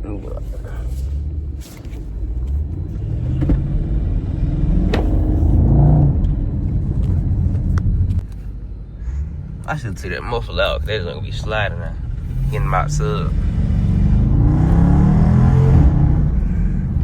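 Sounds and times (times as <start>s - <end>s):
car engine and exhaust accelerating: 0.0s - 17.0s.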